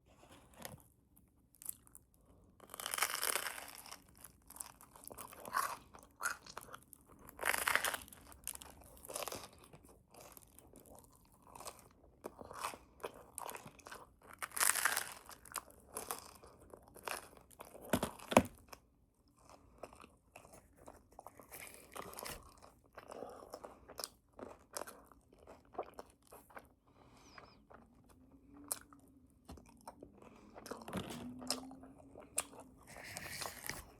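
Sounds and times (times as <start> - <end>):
crunchy bagel chewing: 1.5 - 33.9.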